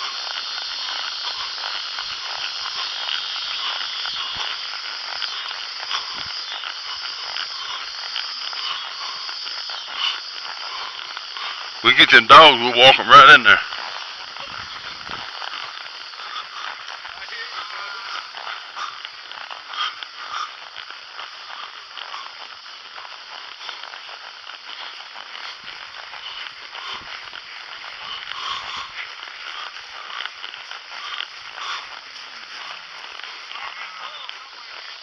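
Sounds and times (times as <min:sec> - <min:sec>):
outdoor crackles and rustles: 0:00.0 - 0:35.0.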